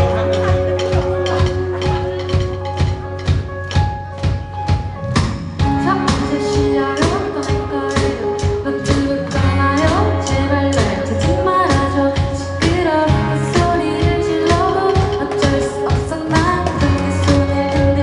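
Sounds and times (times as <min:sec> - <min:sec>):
person singing: 0:00.0 - 0:03.2, 0:05.7 - 0:18.0
band playing live: 0:00.0 - 0:18.0
steady drum beat: 0:00.0 - 0:18.0.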